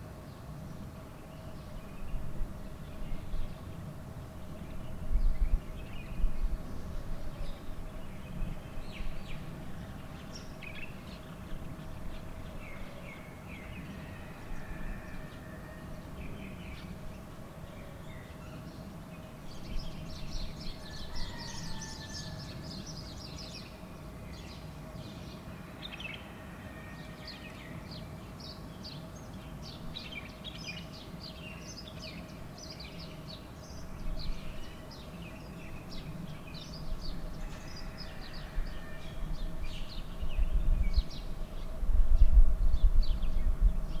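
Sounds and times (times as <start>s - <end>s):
birds chirping and trilling: 5.7s - 26.3s, 27.0s - 44.0s.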